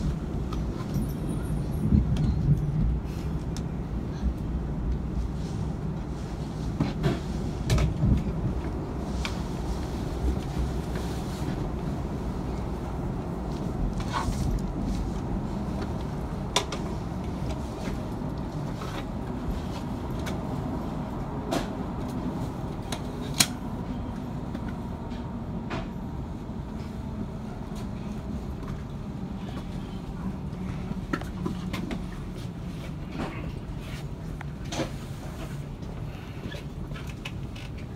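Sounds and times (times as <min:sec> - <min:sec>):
train cabin rumble: 0:00.0 - 0:37.9.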